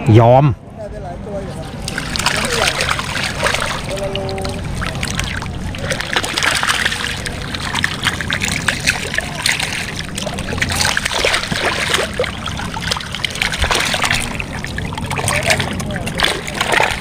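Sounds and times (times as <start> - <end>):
water splashing and dripping: 1.7 - 17.0
wet net being handled: 1.8 - 17.0.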